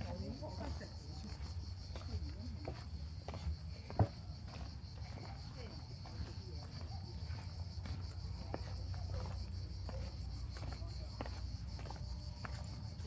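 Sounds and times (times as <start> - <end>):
cicadas chorus: 0.0 - 13.0.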